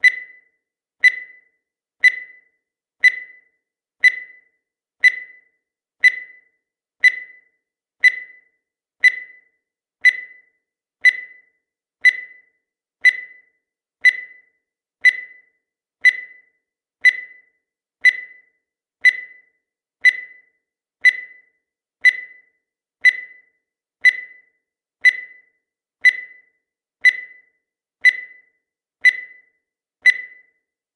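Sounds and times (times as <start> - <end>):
short high-pitched beeps: 0.0 - 30.6.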